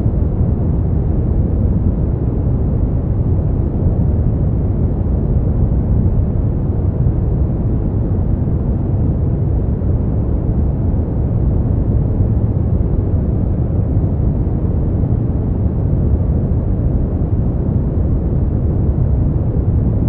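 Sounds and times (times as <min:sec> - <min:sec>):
deep white noise: 0:00.0 - 0:20.0.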